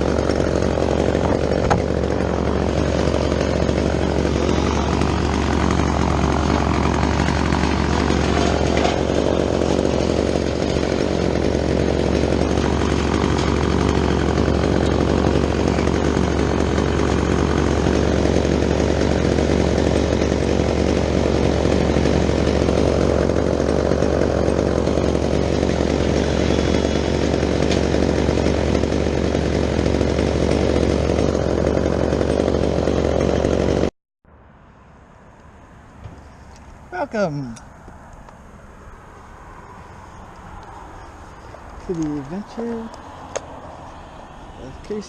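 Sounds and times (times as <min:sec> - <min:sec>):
chainsaw running at high speed: 0:00.0 - 0:33.9, 0:40.2 - 0:45.0.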